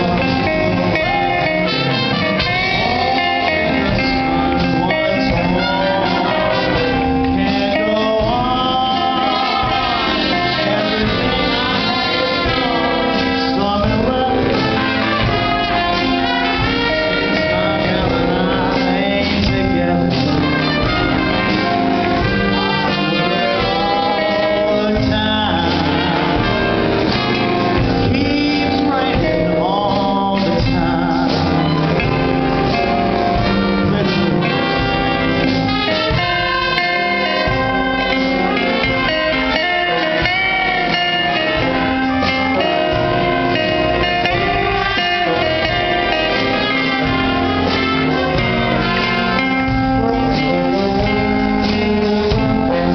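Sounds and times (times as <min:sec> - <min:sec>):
jazz with brass horns: 0:00.0 - 0:52.9.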